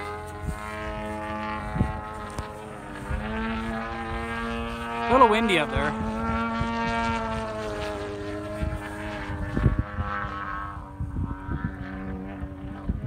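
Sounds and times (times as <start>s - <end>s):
model plane engine and propeller: 0.0s - 13.0s
wind gusts on microphone: 0.0s - 13.0s.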